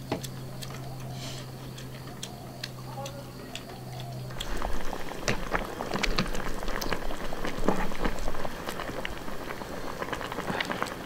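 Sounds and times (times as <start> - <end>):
broth bubbling in a pot: 0.1 - 11.0.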